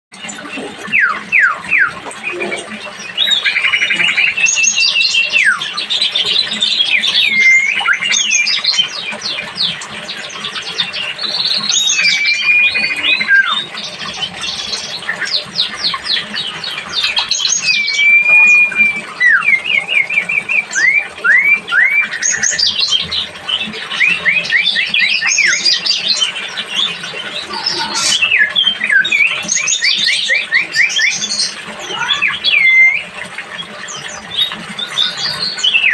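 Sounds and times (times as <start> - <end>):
songbirds singing: 0.2 - 35.9.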